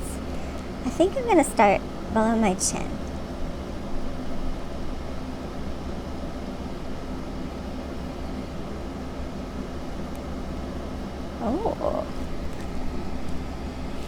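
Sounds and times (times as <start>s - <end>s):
low background hum with hiss: 0.0s - 14.0s.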